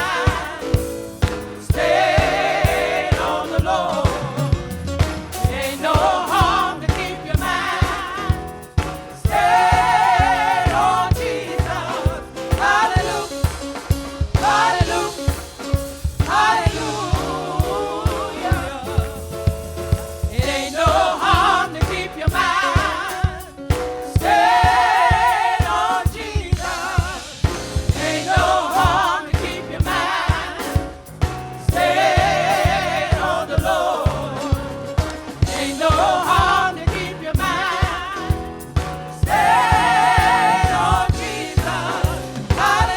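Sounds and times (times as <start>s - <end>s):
gospel choir singing with band: 0.0s - 42.9s.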